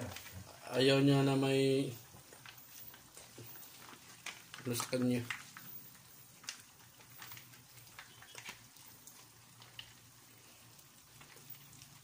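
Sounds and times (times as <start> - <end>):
meat crackling in a frying pan: 0.0 - 12.0.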